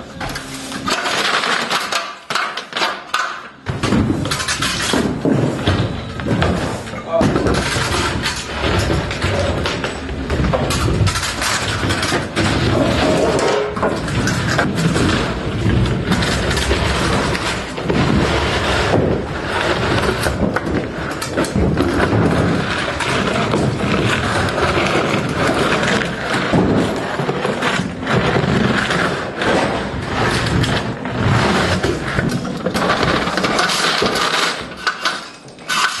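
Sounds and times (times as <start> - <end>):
demolition knocks thuds and scrapes: 0.0 - 36.0.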